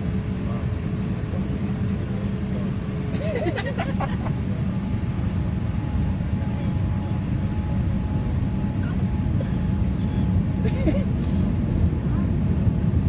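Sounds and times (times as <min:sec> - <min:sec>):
aircraft cabin rumble: 0:00.0 - 0:13.0
faint steady whine: 0:00.0 - 0:13.0.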